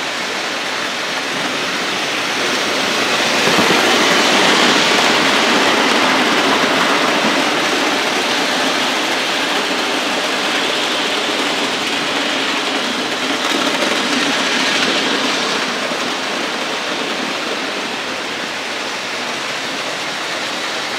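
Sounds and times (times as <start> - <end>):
model trains whirring on tracks: 0.0 - 20.9.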